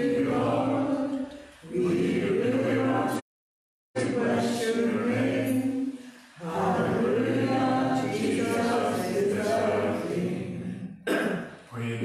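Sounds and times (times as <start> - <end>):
congregation singing a hymn: 0.0 - 3.2, 4.0 - 11.3.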